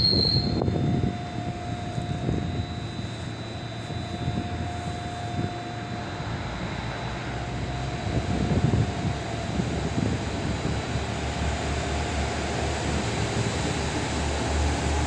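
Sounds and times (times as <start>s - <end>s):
railcar engine rumble: 0.0s - 15.0s
steady high whine: 0.0s - 15.0s.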